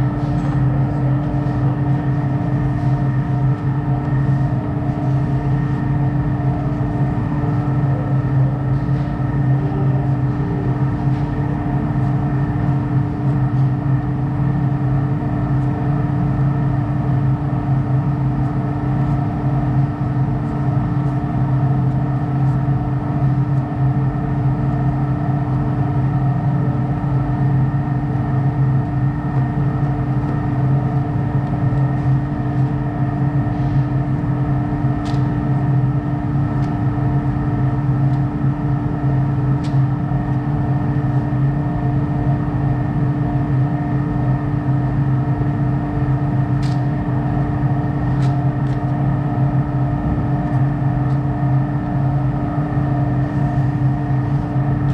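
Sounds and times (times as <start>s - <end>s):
steady motor hum: 0.0s - 54.9s.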